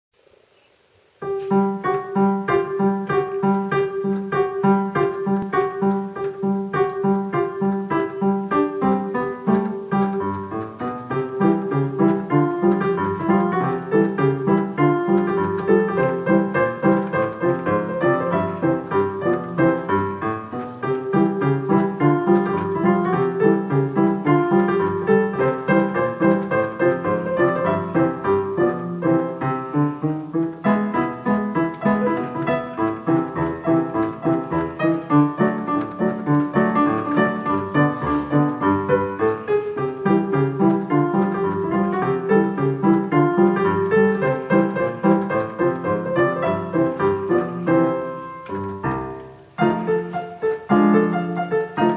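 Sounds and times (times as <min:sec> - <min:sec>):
digital piano ragtime piece: 0:01.1 - 0:51.9.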